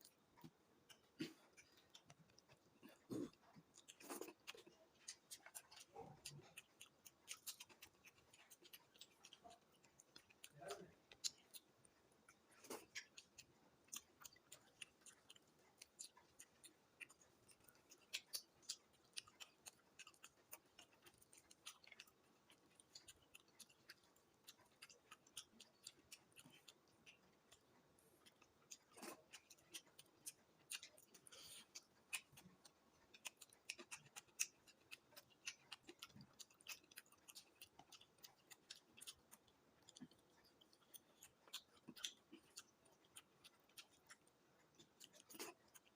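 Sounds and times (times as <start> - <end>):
chewing with mouth clicks: 0.0 - 45.9.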